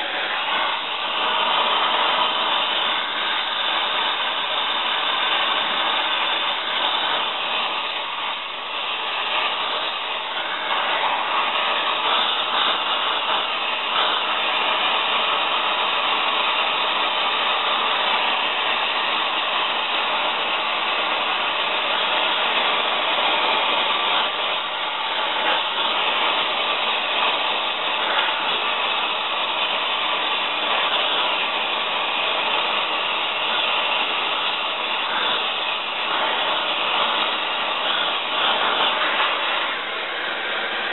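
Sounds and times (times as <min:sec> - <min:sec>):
gas torch burning: 0:00.0 - 0:40.9.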